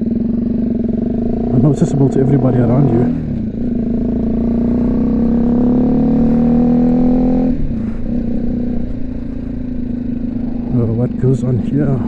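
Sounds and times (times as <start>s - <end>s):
motorcycle engine pulling: 0.2s - 12.0s.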